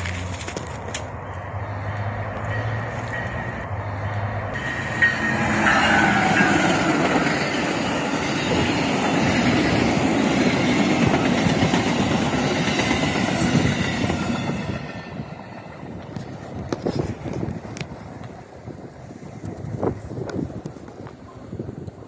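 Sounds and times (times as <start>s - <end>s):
wheels clacking on rails: 0.0s - 18.6s
diesel locomotive passing: 0.0s - 21.6s
passenger cars rumbling: 0.0s - 21.8s.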